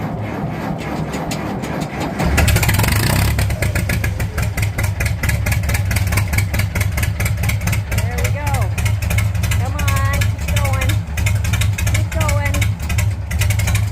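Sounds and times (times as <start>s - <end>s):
diesel tractor engine starting: 0.0s - 13.9s.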